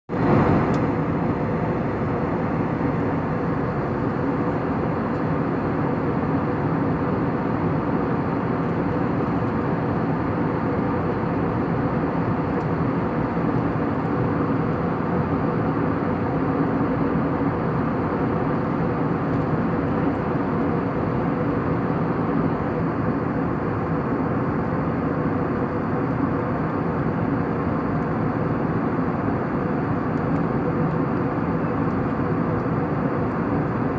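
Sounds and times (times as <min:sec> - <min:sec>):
airliner cabin engine drone: 0:00.1 - 0:33.9.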